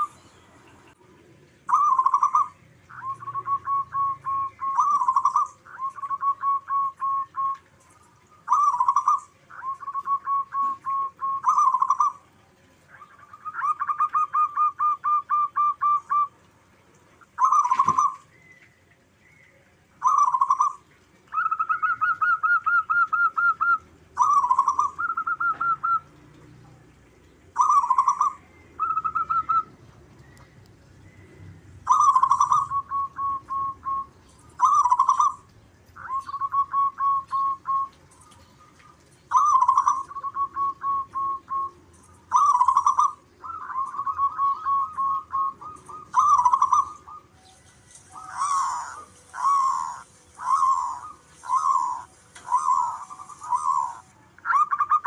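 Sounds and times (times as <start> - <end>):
dove cooing: 0.0 - 7.8, 8.4 - 18.3, 20.0 - 26.5, 27.5 - 29.9, 31.8 - 55.0.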